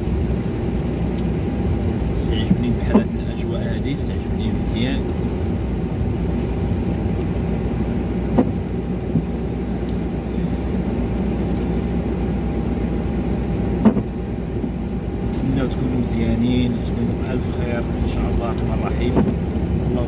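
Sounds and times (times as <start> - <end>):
car engine and tyre hum: 0.0 - 20.0.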